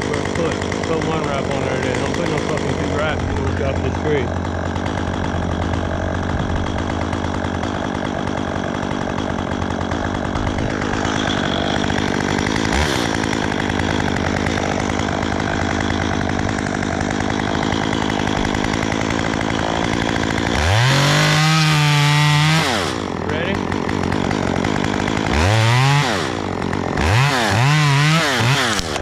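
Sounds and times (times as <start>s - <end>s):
chainsaw running: 0.0s - 29.0s.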